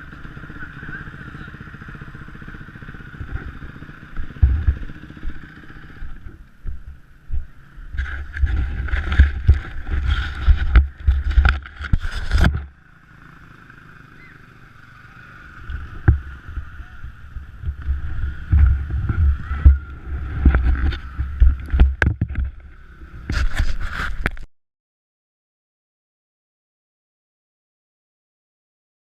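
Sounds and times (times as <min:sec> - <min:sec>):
motocross bike engines: 0:00.0 - 0:24.5.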